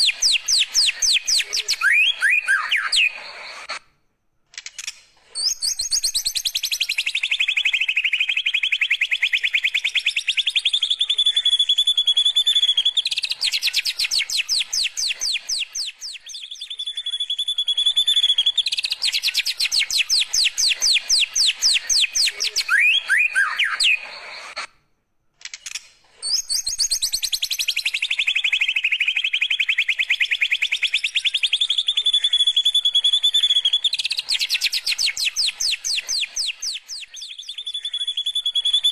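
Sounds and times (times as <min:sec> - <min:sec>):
bird singing trills and whistles: 0:00.0 - 0:03.8, 0:05.3 - 0:24.7, 0:26.2 - 0:38.9.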